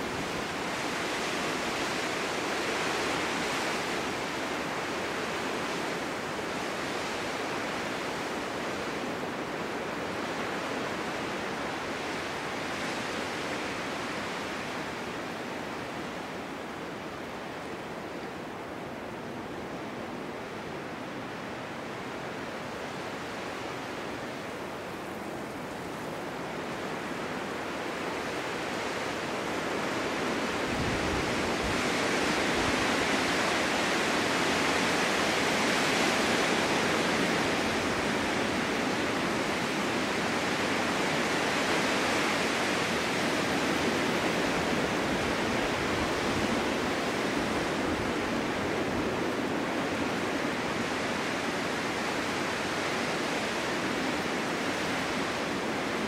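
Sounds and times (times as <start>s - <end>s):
storm wind blowing: 0.0s - 56.0s.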